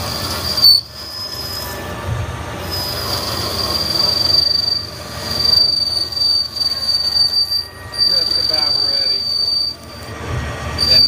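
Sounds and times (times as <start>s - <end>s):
lathe tool squealing: 0.0s - 11.0s.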